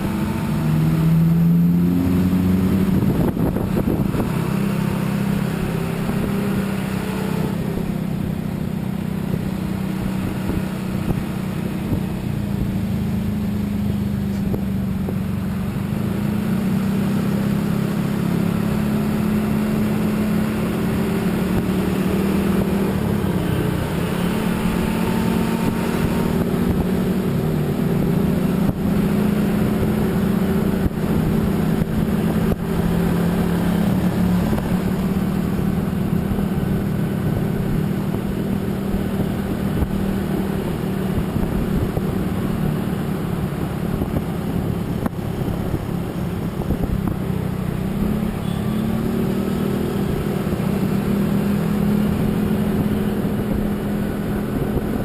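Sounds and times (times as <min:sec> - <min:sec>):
road and wind noise: 0:00.0 - 0:55.0
vehicle engine hum: 0:00.0 - 0:55.0.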